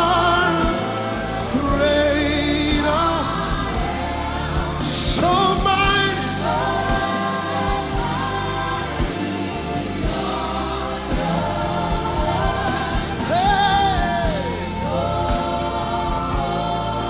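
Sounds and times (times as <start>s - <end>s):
band with drums: 0.0s - 17.0s
choir singing held notes: 0.0s - 17.0s
lead voice singing out: 0.0s - 17.0s.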